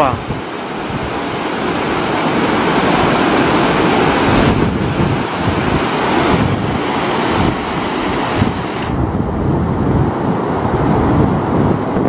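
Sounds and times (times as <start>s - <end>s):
floodwater rushing and churning: 0.0s - 12.0s
wind buffeting microphone: 0.0s - 12.0s.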